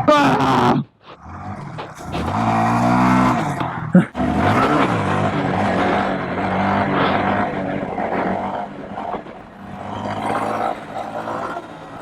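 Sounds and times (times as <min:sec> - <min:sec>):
mini bike engines revving: 0:00.0 - 0:12.0.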